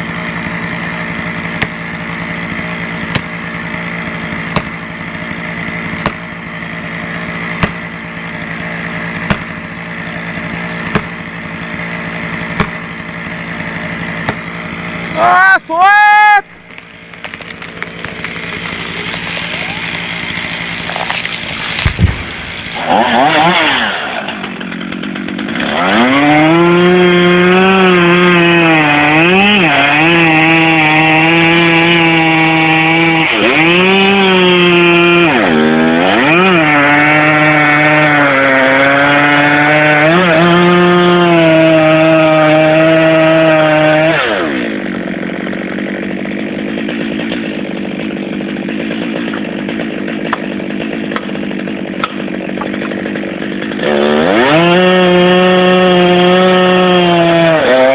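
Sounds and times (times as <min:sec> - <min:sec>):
chainsaw cutting wood: 0:00.0 - 0:15.8, 0:16.4 - 0:57.9.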